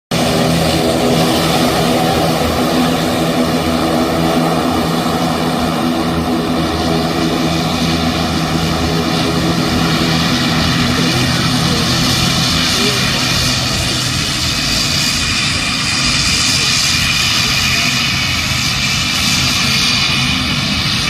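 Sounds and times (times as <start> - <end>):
turboprop engines droning: 0.1 - 21.0.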